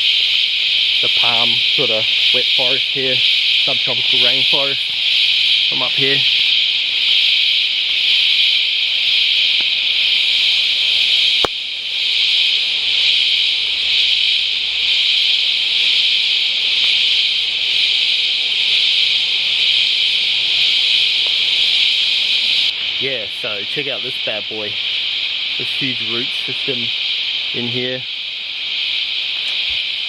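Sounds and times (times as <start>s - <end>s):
cicadas droning: 0.0s - 30.0s.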